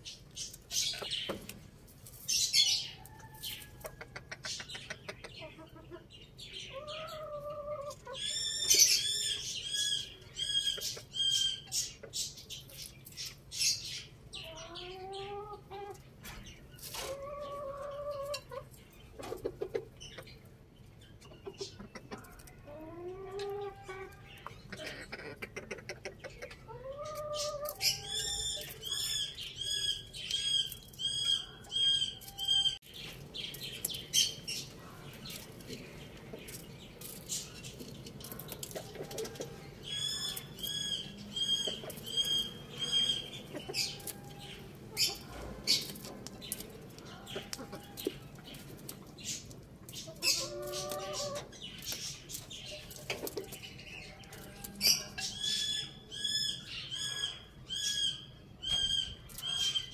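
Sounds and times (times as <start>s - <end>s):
chickens calling: 0.0s - 59.9s
small bird chirping: 0.0s - 59.9s.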